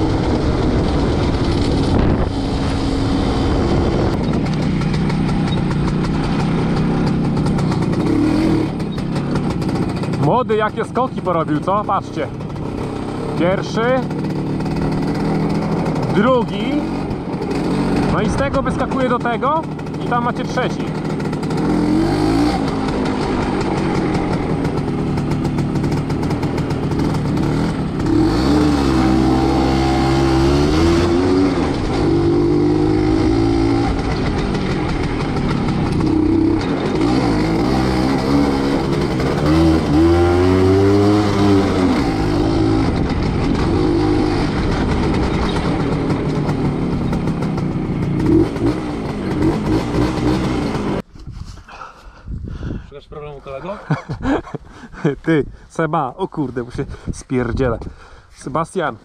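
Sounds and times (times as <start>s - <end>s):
two-stroke motorcycle engine revving: 0.0s - 51.1s, 53.8s - 55.1s.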